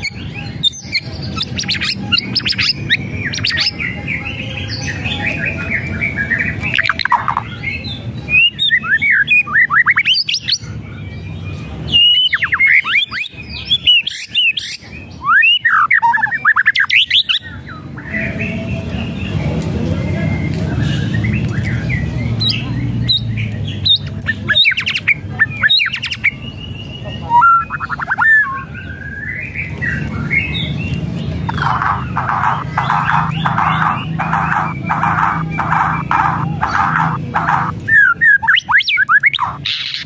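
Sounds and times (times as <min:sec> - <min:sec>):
bird singing whistles and chatter: 0:00.0 - 0:40.0.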